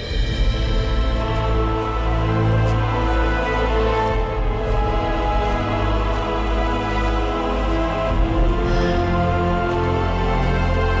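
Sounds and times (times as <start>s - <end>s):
dramatic sustained soundtrack music: 0.0s - 11.0s.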